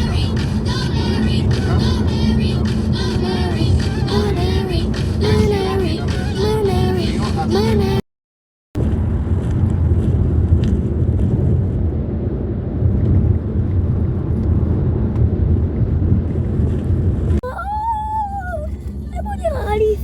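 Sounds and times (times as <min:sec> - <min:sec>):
car road and engine noise: 0:00.0 - 0:08.0, 0:08.8 - 0:17.4.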